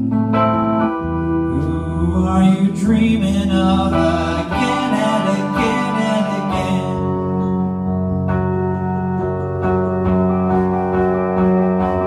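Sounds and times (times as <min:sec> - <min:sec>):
organ-like keyboard chords: 0:00.0 - 0:12.0.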